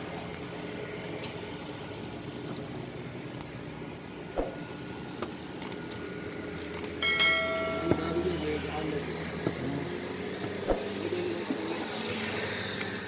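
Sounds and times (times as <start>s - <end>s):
steady background hum: 0.0s - 12.1s.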